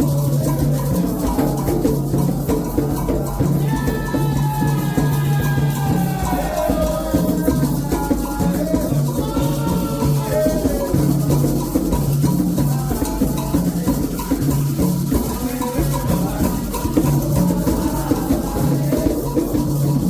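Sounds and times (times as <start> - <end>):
hand drums rhythm: 0.0 - 20.0
shaken rattle: 0.0 - 20.0
voices singing: 0.0 - 20.0.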